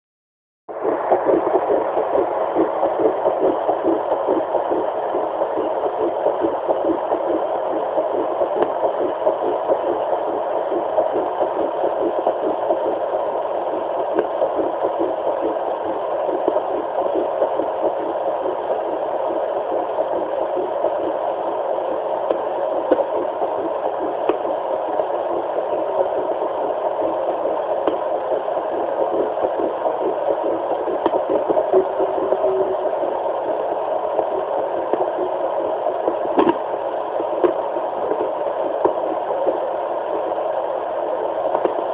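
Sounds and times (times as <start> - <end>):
fast doppler heartbeat pulse: 0.7 - 41.9.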